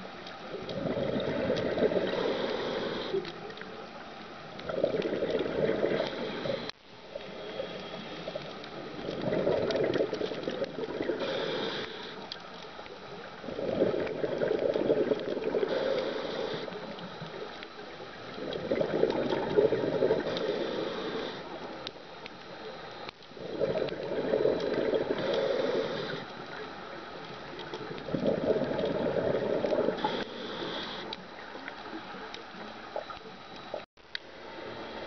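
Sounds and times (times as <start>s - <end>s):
exhaled bubbles gurgling: 0.0s - 12.2s, 13.1s - 21.9s, 22.6s - 33.8s.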